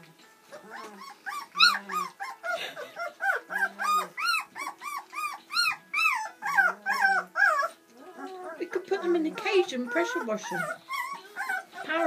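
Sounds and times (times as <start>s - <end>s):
puppies whimpering and squealing: 0.0s - 12.0s.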